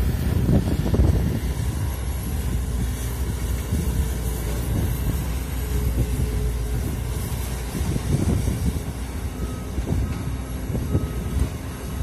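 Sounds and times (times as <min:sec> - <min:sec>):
excavator diesel engine under load: 0:00.0 - 0:12.0.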